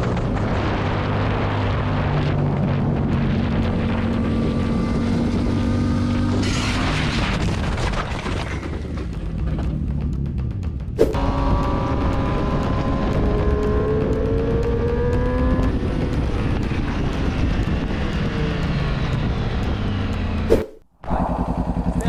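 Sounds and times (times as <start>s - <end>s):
vehicle engine running at speed: 0.0s - 7.8s, 9.0s - 22.0s.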